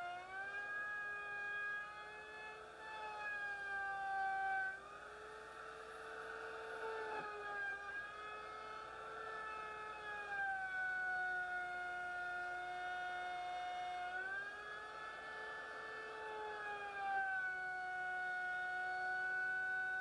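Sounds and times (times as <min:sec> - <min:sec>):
wood router motor whining: 0:00.0 - 0:20.0.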